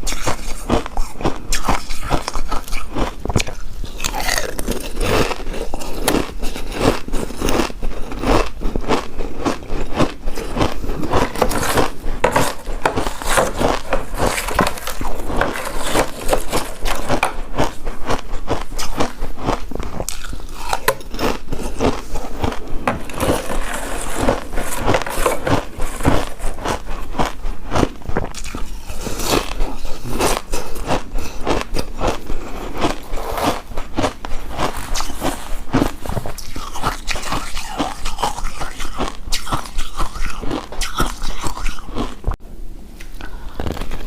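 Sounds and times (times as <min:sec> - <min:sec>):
close chewing and biting: 0:00.0 - 0:42.4.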